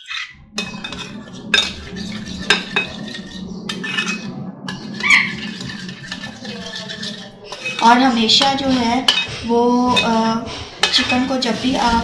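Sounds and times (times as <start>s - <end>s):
spoon stirring in glass bowl: 0.0s - 12.0s
low hum: 0.3s - 12.0s.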